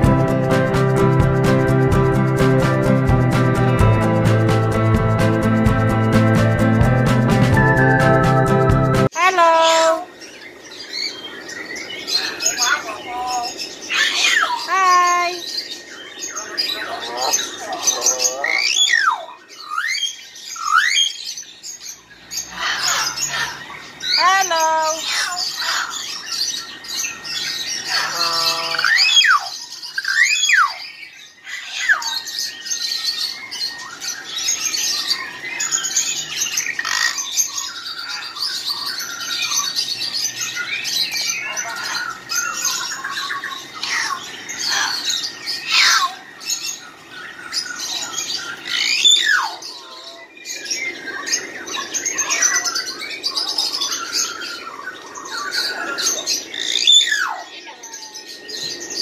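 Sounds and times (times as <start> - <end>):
caged birds chirping and squawking: 9.1 - 59.0.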